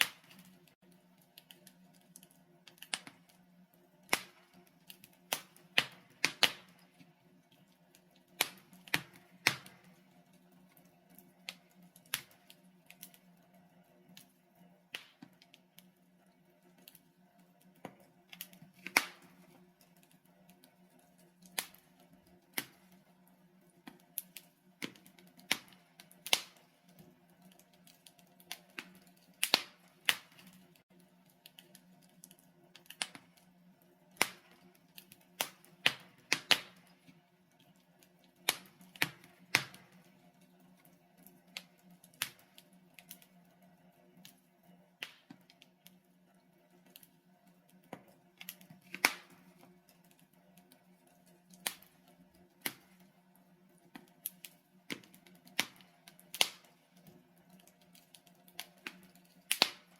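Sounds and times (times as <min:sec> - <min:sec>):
logs crackling in fireplace: 0:00.0 - 0:59.9.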